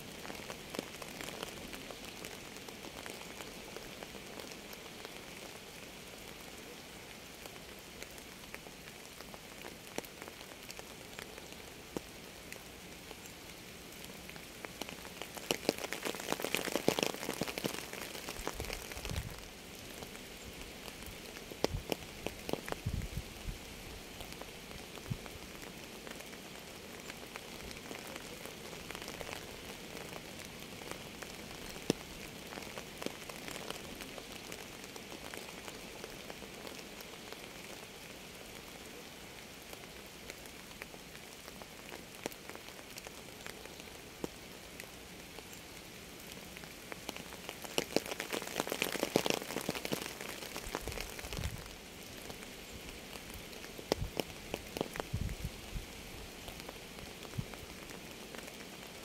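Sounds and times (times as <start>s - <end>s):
raindrops ticking: 0.0s - 23.0s, 24.0s - 55.6s, 56.2s - 59.0s
rain falling steadily: 0.0s - 59.0s.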